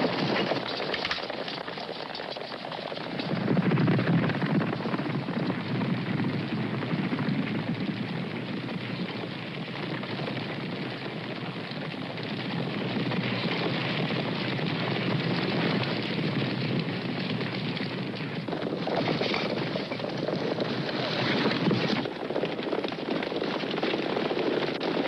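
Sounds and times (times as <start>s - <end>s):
horses galloping: 0.0s - 25.0s.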